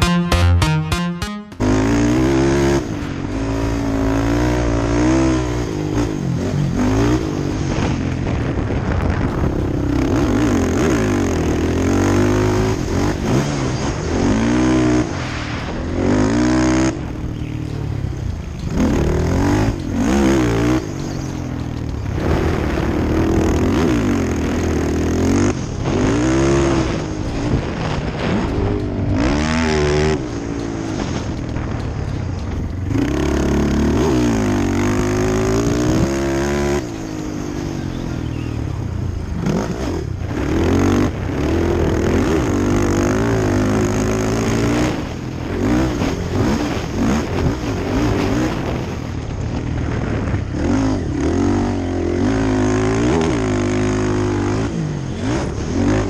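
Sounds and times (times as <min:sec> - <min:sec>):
quad engine revving: 0:01.5 - 0:56.0.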